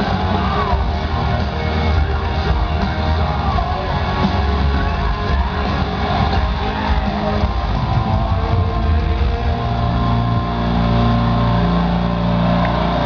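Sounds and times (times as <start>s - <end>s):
distorted electric guitars: 0.0s - 13.0s
pounding drums: 0.0s - 13.0s.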